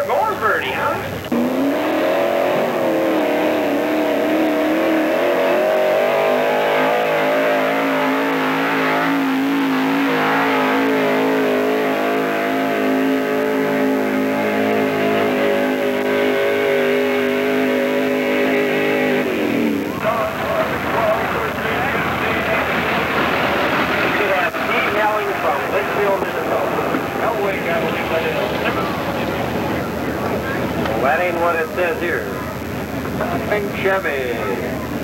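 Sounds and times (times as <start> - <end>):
truck engine at high revs: 0.0 - 35.0.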